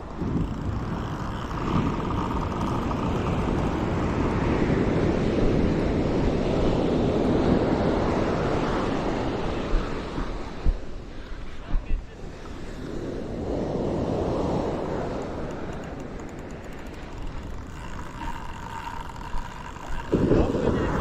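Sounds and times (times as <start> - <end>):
wave breaking on a beach: 0.1 - 21.0.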